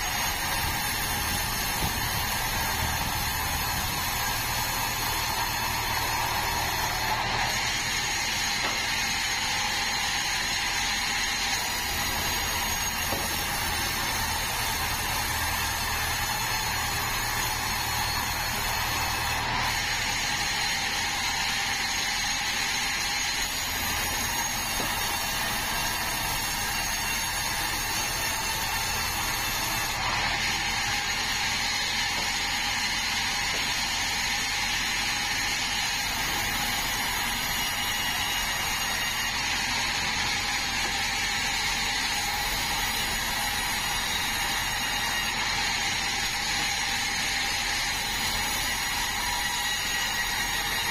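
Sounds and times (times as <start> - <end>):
band sawmill whirring: 0.0 - 50.9.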